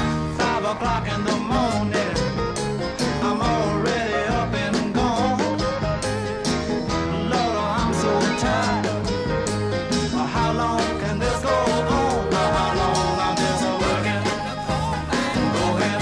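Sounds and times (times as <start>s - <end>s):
bass: 0.0s - 16.0s
guitar: 0.0s - 16.0s
steady drum beat: 0.0s - 16.0s
person singing: 0.3s - 2.4s, 3.0s - 5.8s, 7.1s - 9.2s, 10.1s - 16.0s.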